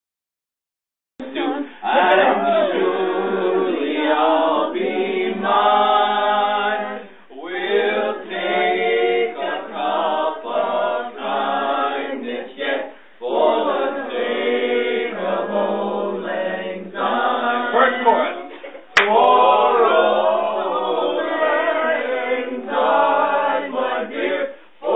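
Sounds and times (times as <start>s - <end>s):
group of people singing: 1.2s - 24.9s.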